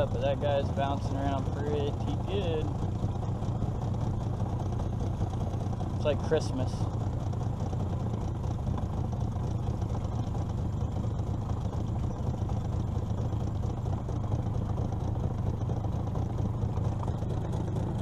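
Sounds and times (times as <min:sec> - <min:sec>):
outboard motor humming: 0:00.0 - 0:18.0.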